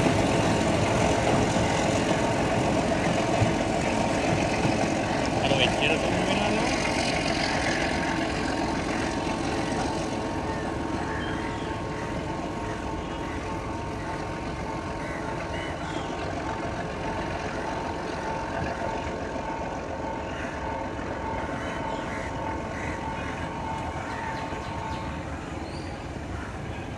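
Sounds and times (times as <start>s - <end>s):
diesel locomotive engine drone: 0.0s - 26.9s.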